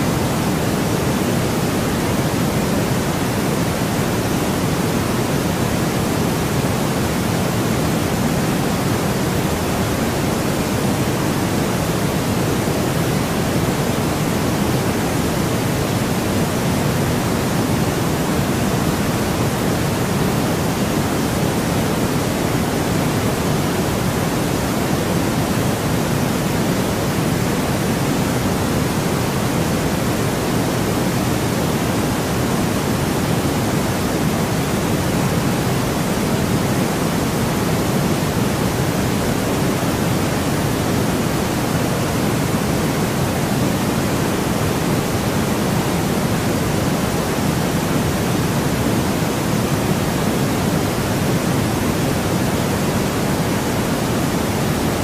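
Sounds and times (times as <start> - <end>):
steady white noise: 0.0 - 55.0.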